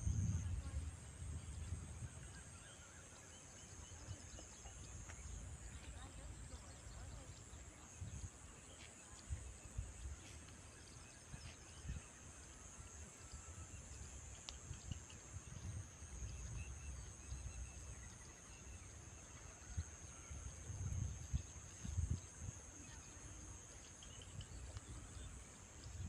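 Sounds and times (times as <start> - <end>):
high insect drone: 0.0 - 26.0
faint bird chirps: 0.1 - 26.0.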